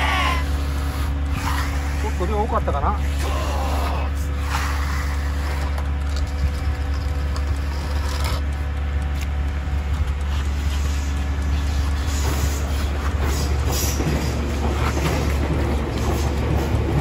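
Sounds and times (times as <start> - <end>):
rake scraping wet concrete: 0.0 - 17.0
vehicle engine drone: 0.0 - 17.0.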